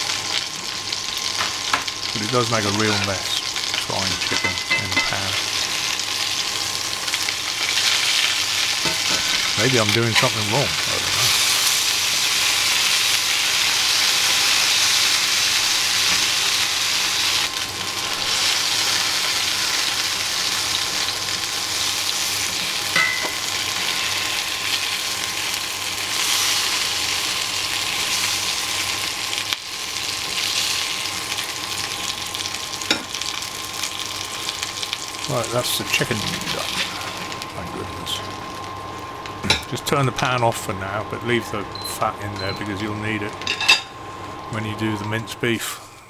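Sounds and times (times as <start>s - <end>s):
chicken frying in a pan: 0.0s - 43.7s.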